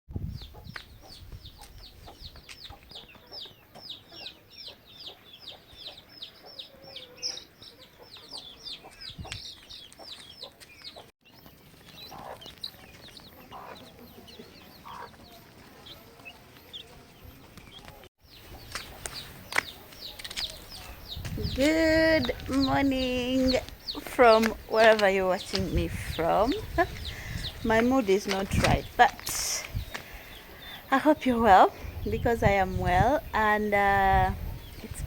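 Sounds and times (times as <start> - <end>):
chicks peeping: 0.1 - 35.0
chickens clucking: 0.4 - 31.4.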